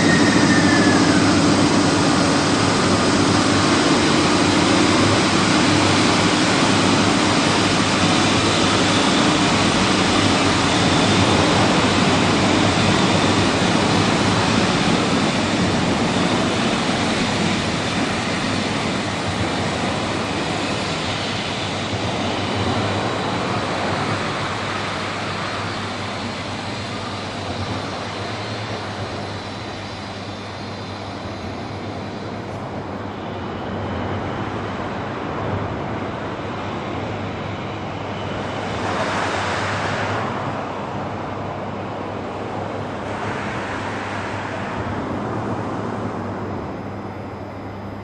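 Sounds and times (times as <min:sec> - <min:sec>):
electric locomotive rumble: 0:00.0 - 0:48.0.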